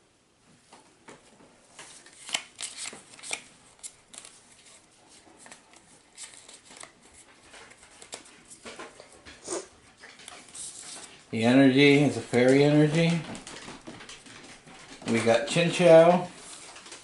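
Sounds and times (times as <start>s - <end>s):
trading cards clicking and scraping: 1.8s - 17.0s.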